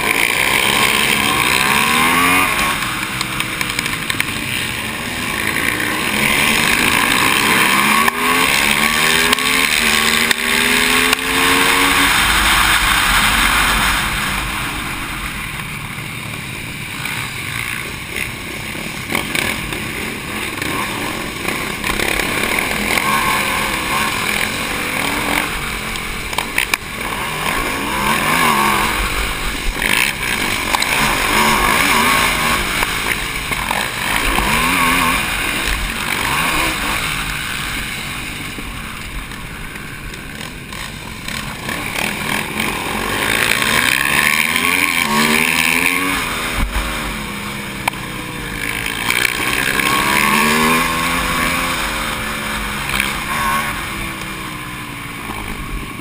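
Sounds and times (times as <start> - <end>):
motorcycle engine revving hard: 0.0 - 56.0.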